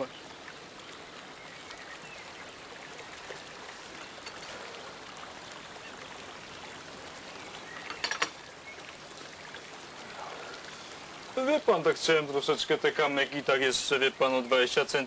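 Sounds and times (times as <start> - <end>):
water trickling over rocks: 0.0 - 15.0.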